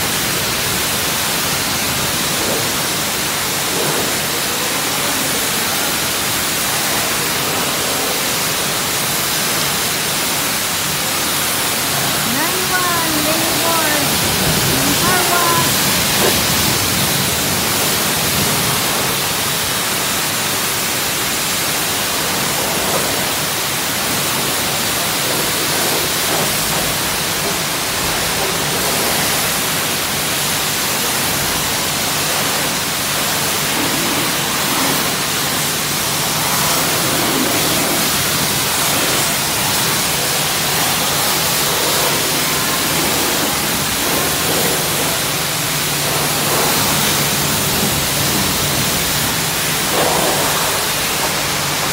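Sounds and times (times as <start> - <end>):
high-pressure water spray hissing: 0.0 - 51.9.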